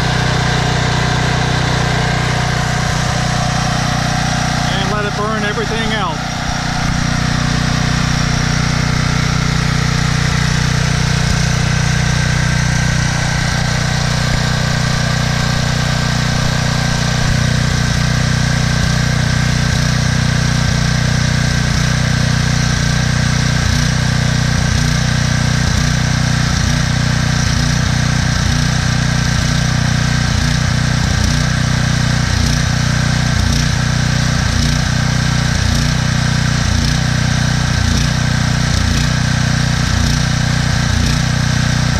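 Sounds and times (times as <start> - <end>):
generator engine running: 0.0 - 41.9.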